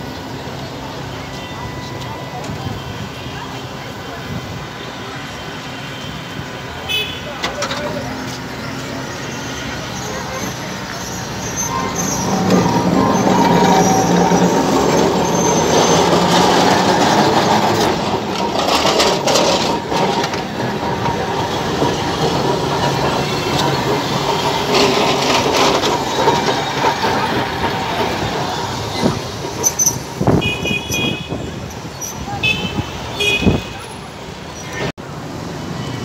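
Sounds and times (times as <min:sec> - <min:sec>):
tram wheels rumbling on rails: 0:00.0 - 0:36.0.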